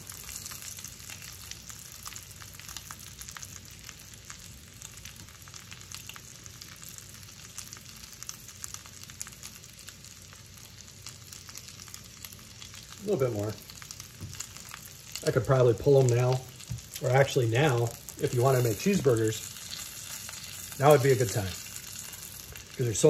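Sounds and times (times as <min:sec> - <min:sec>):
patties sizzling in skillet: 0:00.0 - 0:23.0.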